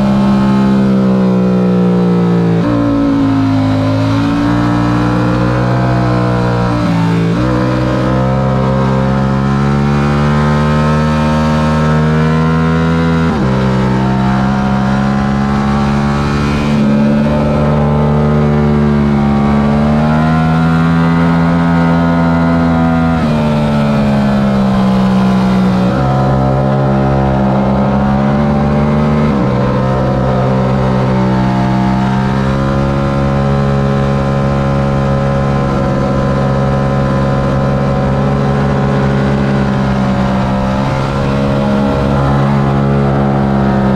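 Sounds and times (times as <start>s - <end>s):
motorcycle engine running hard: 0.0s - 43.9s.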